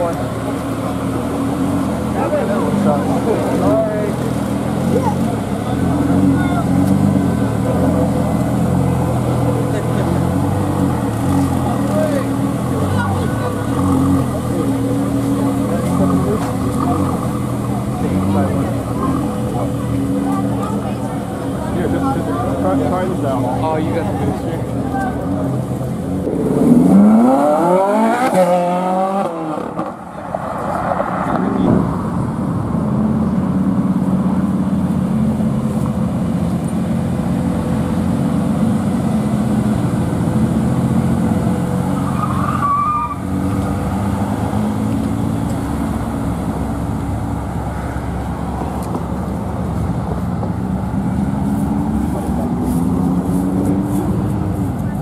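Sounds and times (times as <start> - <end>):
engines running at low revs: 0.0 - 42.6, 43.2 - 55.0
car engine revving: 0.0 - 55.0.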